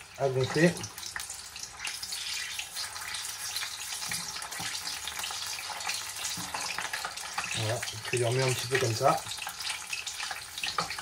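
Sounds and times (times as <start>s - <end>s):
prawns deep-frying in oil: 0.0s - 11.0s.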